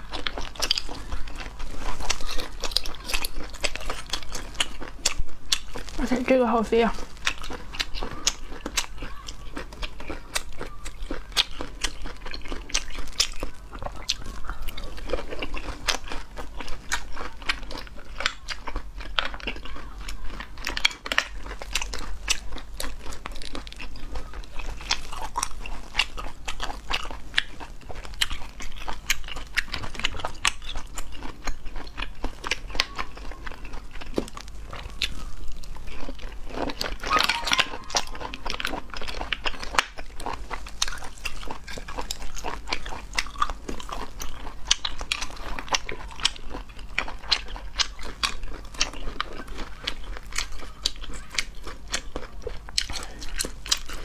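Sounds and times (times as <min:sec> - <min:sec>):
person chewing snail meat: 0:00.0 - 0:54.0.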